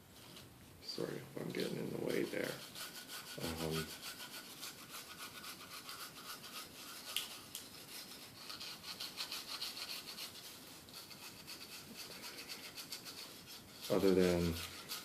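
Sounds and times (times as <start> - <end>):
toothbrush scrubbing circuit board: 1.8 - 15.0.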